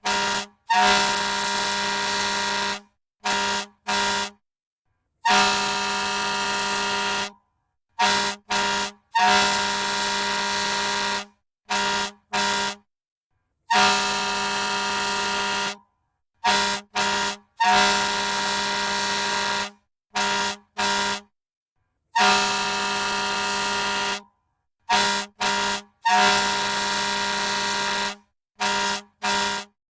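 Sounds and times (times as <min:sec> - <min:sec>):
fire truck air horn blasts: 0:00.0 - 0:04.4, 0:05.2 - 0:07.4, 0:08.0 - 0:12.9, 0:13.7 - 0:21.3, 0:22.1 - 0:24.3, 0:24.9 - 0:29.8.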